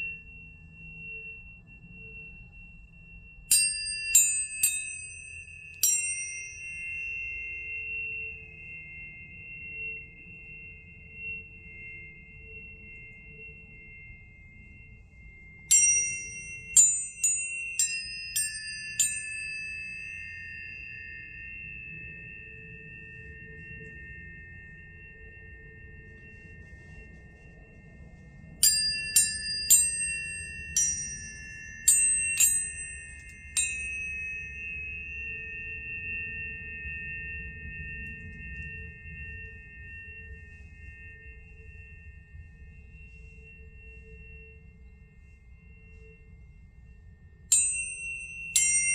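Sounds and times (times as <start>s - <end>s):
faint low hum: 0.0s - 48.9s
high pure tones ringing: 0.0s - 48.9s
tuning forks struck: 0.0s - 48.9s.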